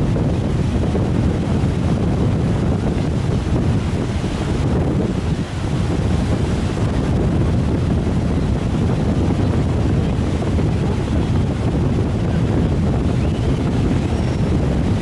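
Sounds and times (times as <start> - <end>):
sea surf breaking: 0.0 - 15.0
wind rumbling on microphone: 0.0 - 15.0.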